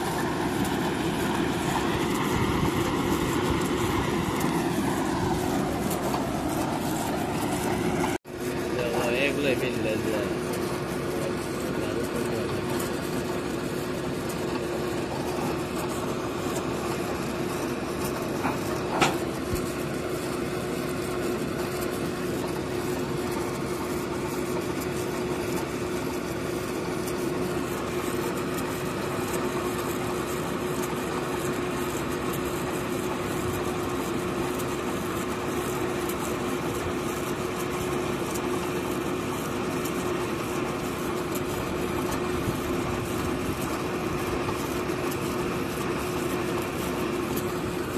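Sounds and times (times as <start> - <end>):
drilling rig engine humming: 0.0 - 47.9.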